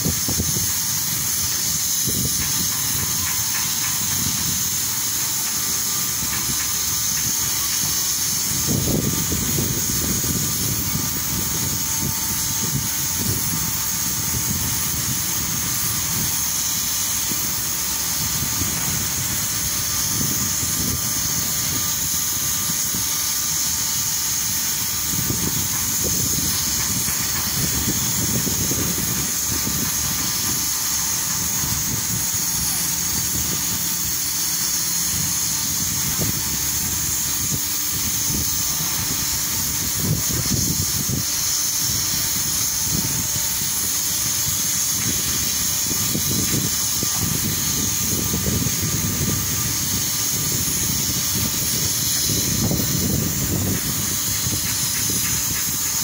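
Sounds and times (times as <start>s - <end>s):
wind buffeting microphone: 0.0s - 56.0s
wind hissing: 0.0s - 56.0s.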